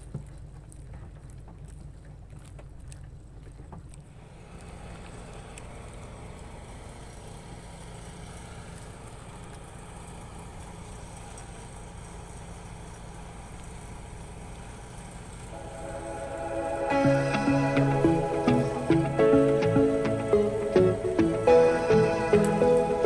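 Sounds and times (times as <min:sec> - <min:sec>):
wind: 0:00.0 - 0:20.9
water noise: 0:00.0 - 0:23.0
low engine hum: 0:04.0 - 0:23.0.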